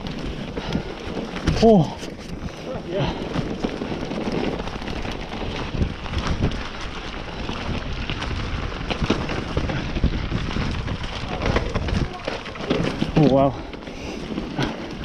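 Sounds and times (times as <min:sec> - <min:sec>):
bike knocking and rattling: 0:00.0 - 0:15.0
bike tyres on gravel: 0:00.0 - 0:15.0.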